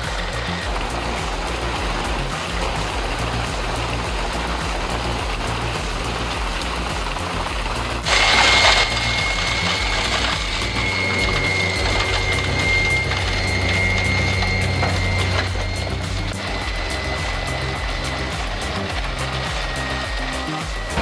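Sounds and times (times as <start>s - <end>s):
high-pitched whine: 0.0s - 21.0s
loud noisy burst: 0.0s - 21.0s
machine engine running: 0.0s - 21.0s.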